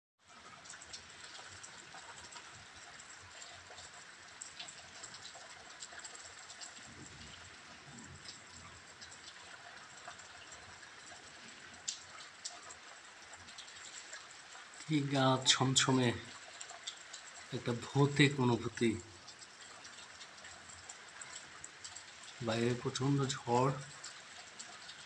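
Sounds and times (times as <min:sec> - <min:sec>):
rain falling: 0:00.2 - 0:25.0.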